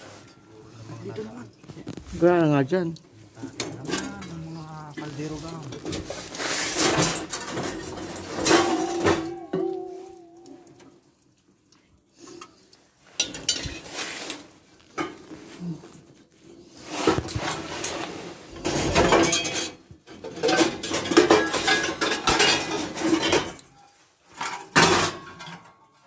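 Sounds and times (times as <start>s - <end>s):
metal pots clanking: 0.0s - 11.0s, 12.2s - 15.5s, 16.8s - 26.0s.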